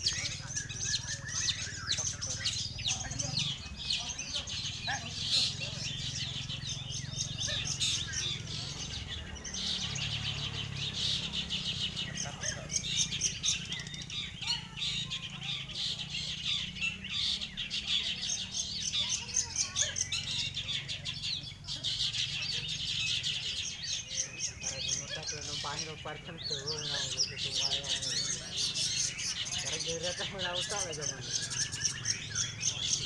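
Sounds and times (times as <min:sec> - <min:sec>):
songbirds chirping in chorus: 0:00.0 - 0:33.0.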